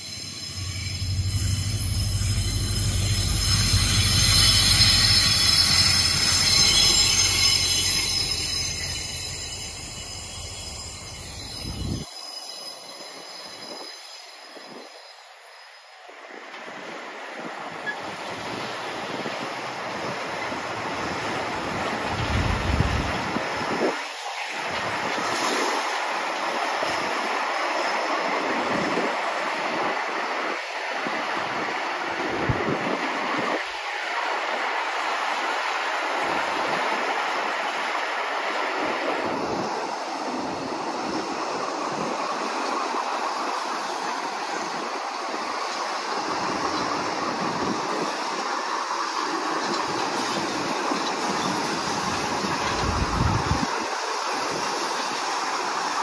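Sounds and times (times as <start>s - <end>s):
train wagon wheels on rails: 0.0s - 56.0s.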